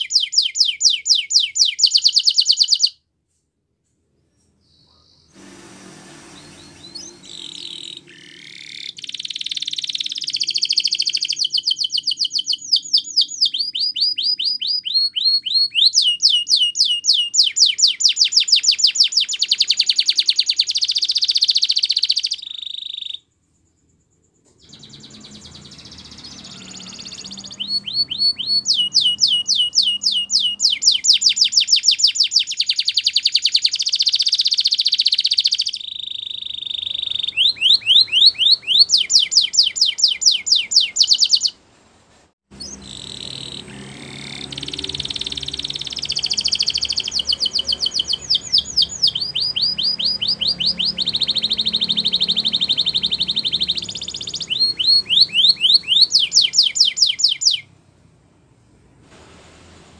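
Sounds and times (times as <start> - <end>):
canary singing trills: 0.0 - 3.0, 4.3 - 23.3, 24.4 - 41.6, 42.5 - 57.7.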